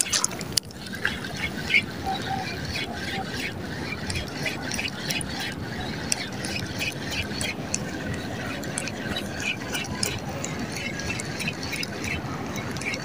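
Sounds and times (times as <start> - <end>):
seawater sloshing and lapping: 0.0 - 13.0
small irregular splashes and ticks: 0.0 - 13.0.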